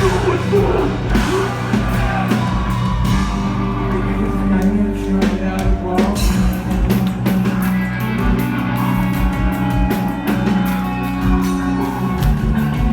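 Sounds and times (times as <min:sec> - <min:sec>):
drum kit: 0:00.0 - 0:12.9
guitars and bass: 0:00.0 - 0:12.9.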